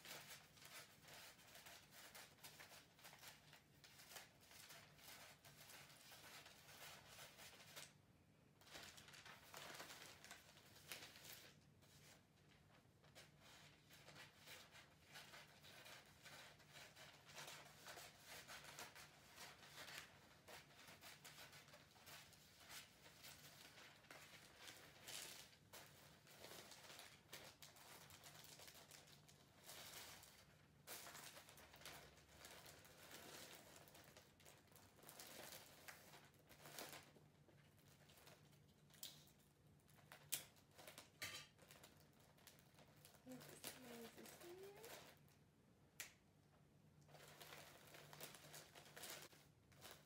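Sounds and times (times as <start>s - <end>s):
wrapping paper rustling: 0.0s - 8.0s, 8.6s - 45.4s, 47.0s - 50.0s.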